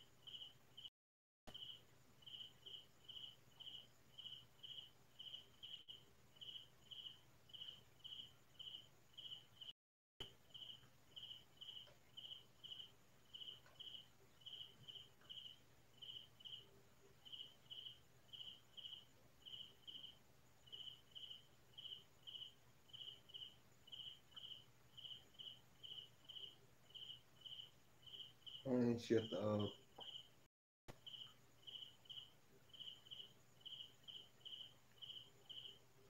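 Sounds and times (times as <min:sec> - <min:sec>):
cricket chirping: 0:00.0 - 0:00.9, 0:01.5 - 0:36.0.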